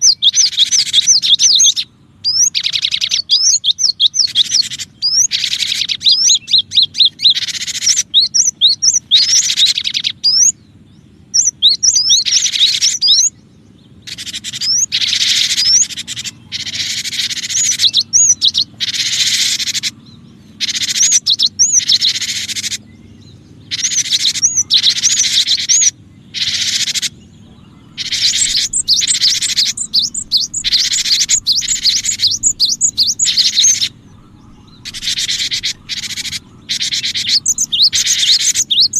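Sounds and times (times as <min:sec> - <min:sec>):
bird chirping rapidly: 0:00.0 - 0:38.9.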